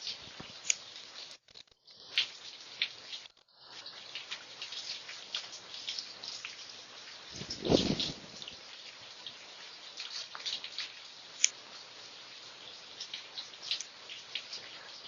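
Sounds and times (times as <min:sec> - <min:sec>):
rain falling: 0:00.0 - 0:15.0
raindrops ticking close by: 0:00.0 - 0:15.0.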